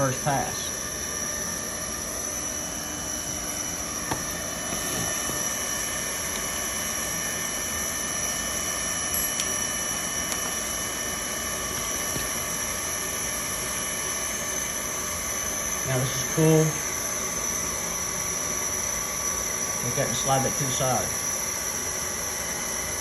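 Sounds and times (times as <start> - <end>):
hot-air welding gun blower hissing: 0.0 - 23.0.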